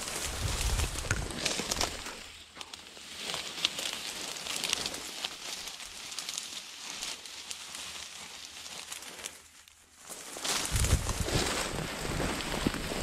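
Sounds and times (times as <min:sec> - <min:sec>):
dry grass and reeds rustling: 0:00.0 - 0:13.0
small crackles: 0:00.0 - 0:13.0.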